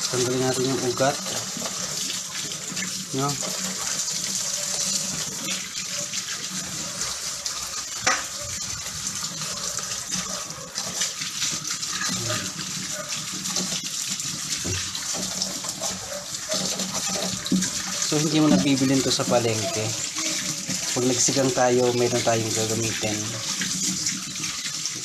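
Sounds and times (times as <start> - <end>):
tap water splashing in sink: 0.0 - 25.0.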